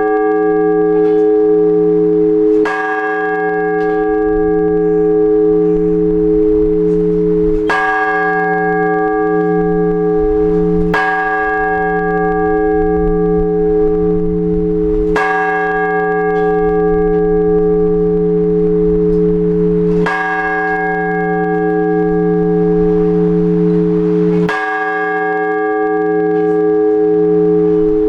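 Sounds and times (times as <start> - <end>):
large church bell tolling: 0.0 - 28.0.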